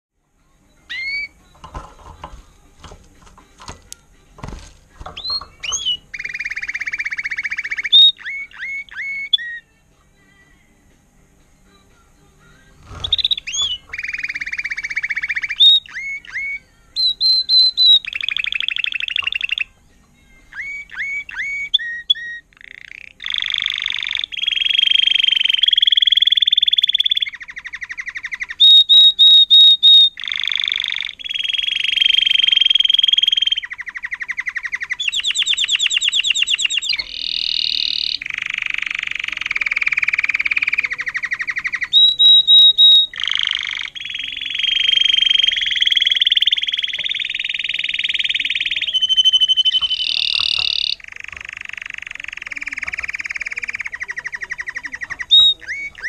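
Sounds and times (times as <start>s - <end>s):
canary singing trilled phrases: 0.6s - 10.6s, 11.7s - 56.0s.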